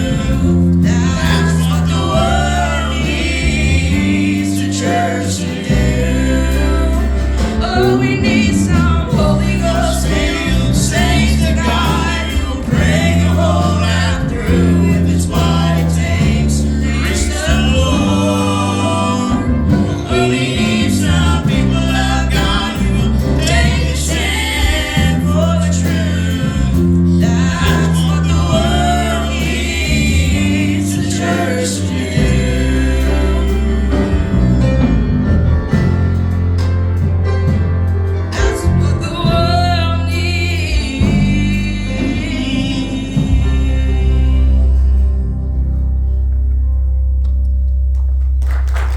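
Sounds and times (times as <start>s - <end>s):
gospel group singing in harmony: 0.0s - 46.2s
walking bass line: 0.0s - 48.9s.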